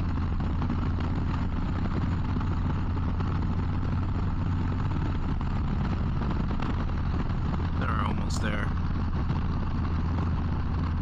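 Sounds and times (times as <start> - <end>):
motorcycle engine running: 0.0 - 11.0
wind and road rush: 0.0 - 11.0.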